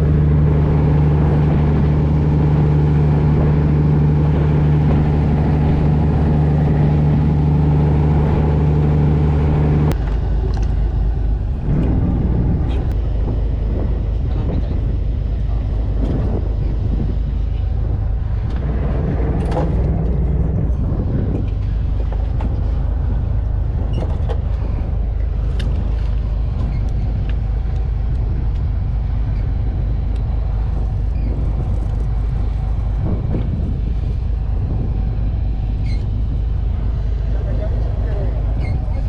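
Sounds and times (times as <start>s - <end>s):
boat engine droning: 0.0s - 39.0s
water noise: 0.0s - 39.0s
wind noise: 0.0s - 39.0s.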